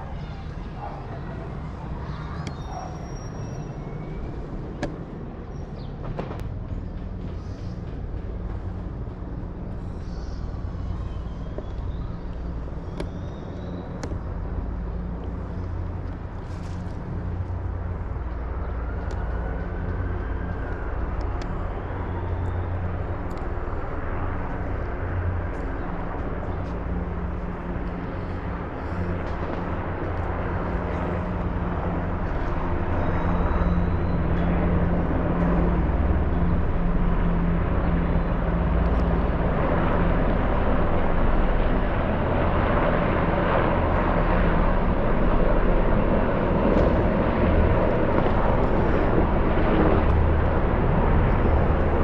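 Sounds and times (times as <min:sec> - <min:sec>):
distant aircraft rumble: 0:00.0 - 0:52.0.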